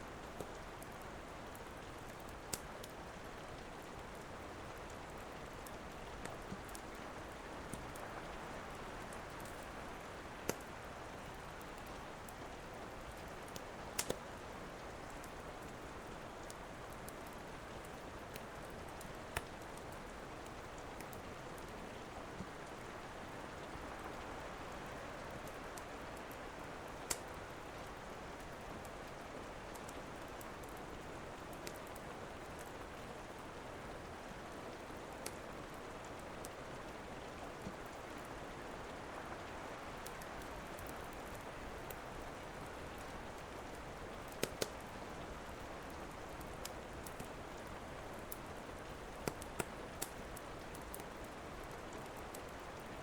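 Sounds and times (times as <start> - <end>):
steady rainfall: 0.0 - 53.0
wood fire crackling and popping: 0.3 - 22.9, 25.3 - 36.6, 39.8 - 52.9.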